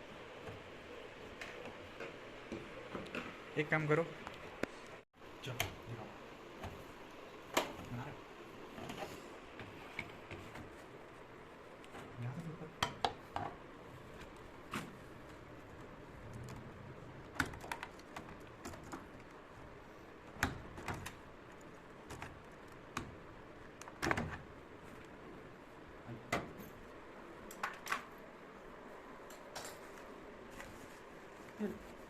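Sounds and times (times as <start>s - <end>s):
faint steady background noise: 0.0s - 32.0s.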